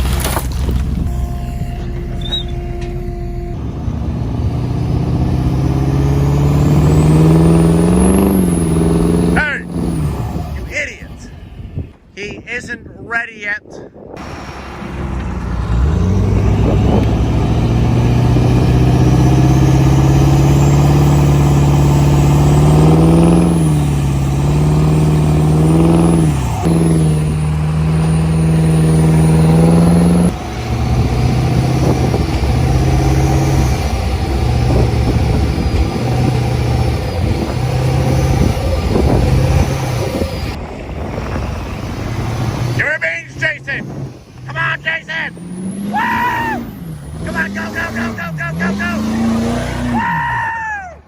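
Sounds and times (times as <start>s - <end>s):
truck engine revving: 0.0s - 12.6s, 14.0s - 51.0s.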